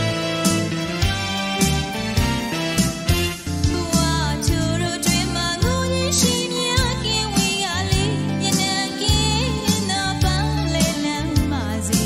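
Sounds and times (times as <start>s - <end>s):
song with bass and beat: 0.0s - 12.0s.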